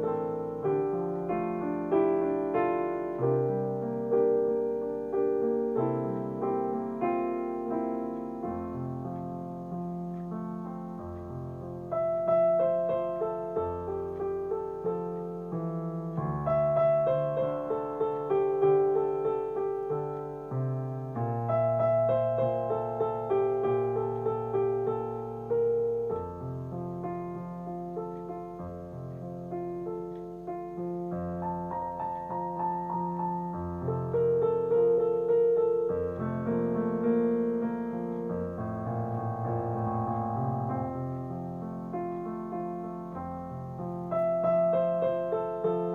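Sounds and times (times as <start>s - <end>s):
slow gentle piano music: 0.0s - 45.9s.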